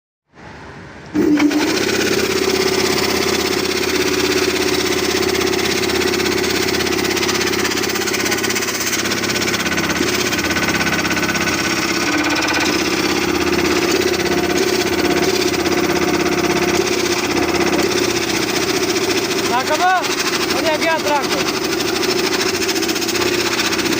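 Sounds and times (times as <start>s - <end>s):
air compressor running: 1.1s - 23.9s.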